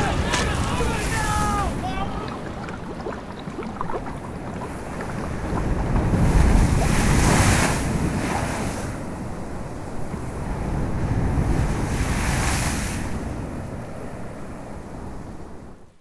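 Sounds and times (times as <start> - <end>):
wind blowing: 0.0 - 13.7
waves surging: 0.0 - 14.4.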